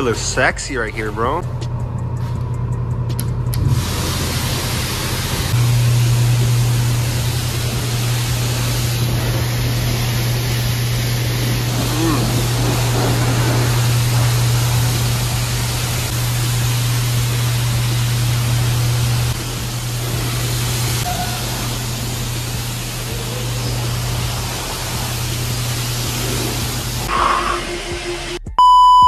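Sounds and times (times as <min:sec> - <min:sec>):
low hum: 0:00.0 - 0:26.2
pressure washer spray hiss: 0:03.6 - 0:28.4.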